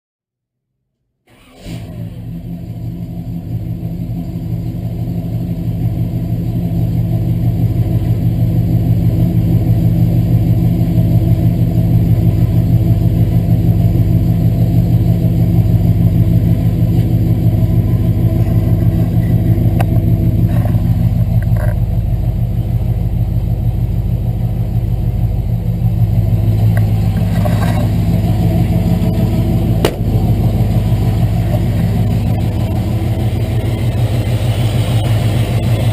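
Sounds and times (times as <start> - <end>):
truck engine idling: 1.4 - 35.9.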